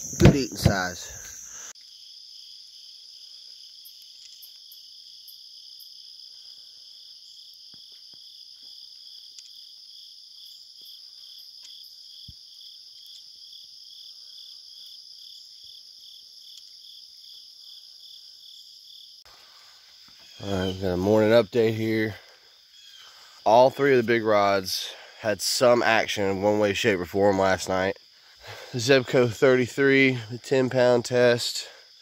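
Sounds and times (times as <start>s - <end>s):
crickets trilling: 0.0s - 32.0s
pulsing insect chirp: 0.0s - 32.0s.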